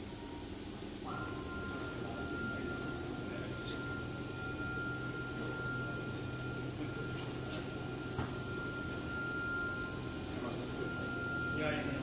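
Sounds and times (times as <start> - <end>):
cnc router humming: 0.0 - 12.0.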